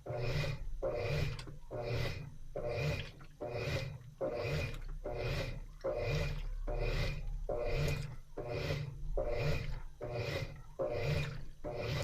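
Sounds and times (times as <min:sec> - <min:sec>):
washing machine agitating: 0:00.0 - 0:12.0.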